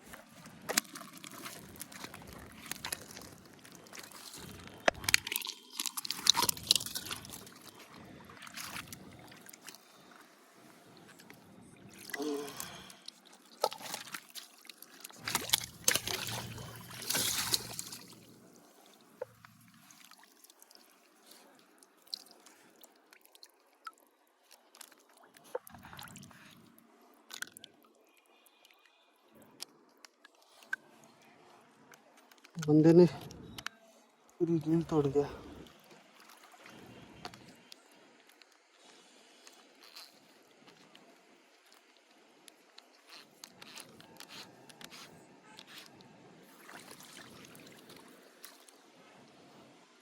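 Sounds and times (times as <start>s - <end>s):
water splashing and sloshing: 0.0s - 28.7s, 34.2s - 49.9s.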